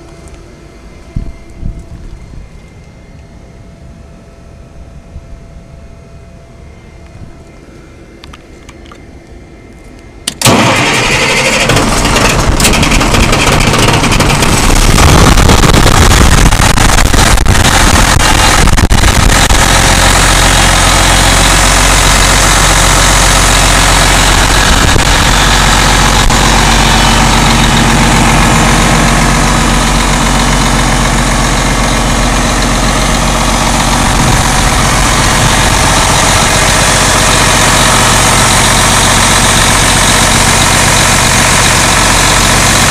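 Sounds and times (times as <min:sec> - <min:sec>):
diesel engine starting and running: 0:00.0 - 0:42.9.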